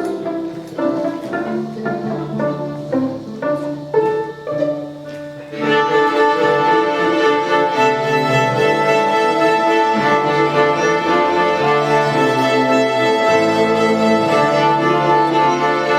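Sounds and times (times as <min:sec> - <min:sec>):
violins bowing a simple tune: 0:00.0 - 0:15.9.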